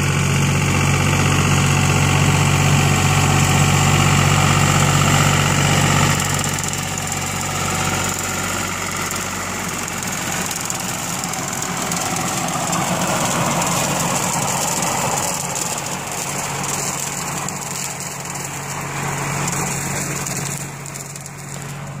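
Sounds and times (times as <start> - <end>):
tractor engine running: 0.0 - 22.0
rotary cutter blades spinning: 3.5 - 22.0.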